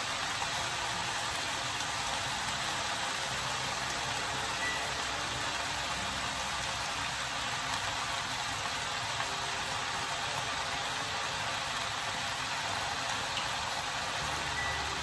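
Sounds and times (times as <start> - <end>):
stir-fry sizzling in a frying pan: 0.0 - 15.0.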